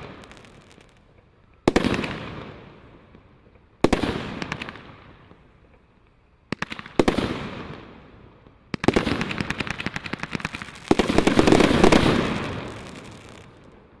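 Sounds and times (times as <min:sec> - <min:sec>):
firework shots crackling: 0:00.0 - 0:14.0.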